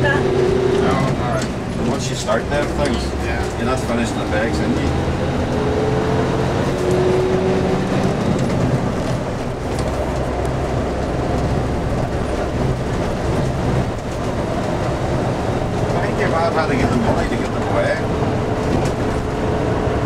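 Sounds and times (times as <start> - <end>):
diesel engine running: 0.0 - 20.0
tyre and road noise: 0.0 - 20.0.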